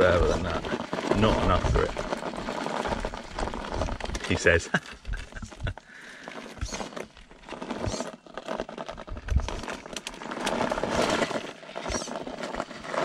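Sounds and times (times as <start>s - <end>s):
tyres crunching over grit: 0.0s - 13.0s.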